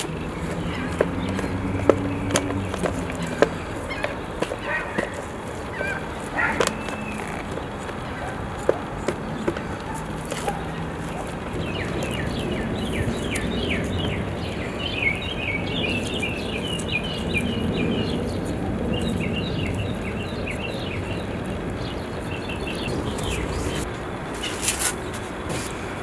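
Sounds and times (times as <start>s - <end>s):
small birds chirping: 0.0s - 25.9s
low outdoor background noise: 0.0s - 26.0s.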